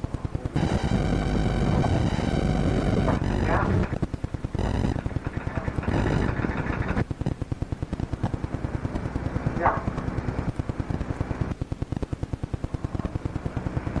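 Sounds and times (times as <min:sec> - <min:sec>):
rapid mechanical clicking: 0:00.0 - 0:14.0.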